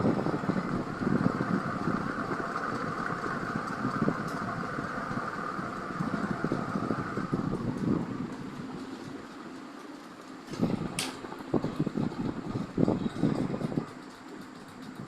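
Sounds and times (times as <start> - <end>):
airflow buffeting microphone: 0.0 - 15.0
ceiling fan whirring: 0.0 - 15.0.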